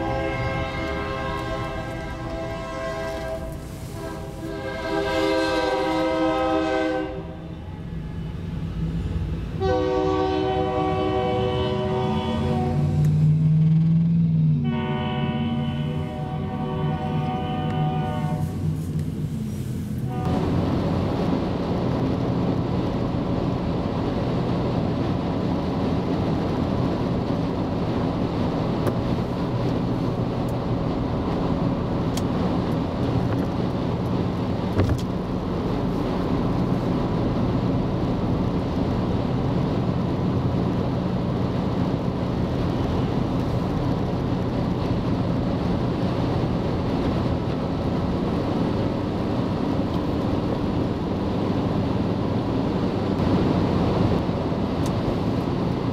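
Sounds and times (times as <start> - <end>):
engine drone: 10.6 - 55.9.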